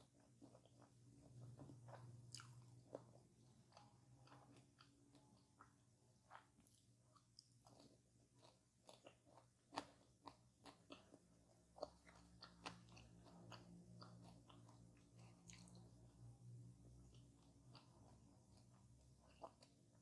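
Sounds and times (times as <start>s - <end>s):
person chewing crunchy food: 0.1s - 15.8s, 17.1s - 20.0s.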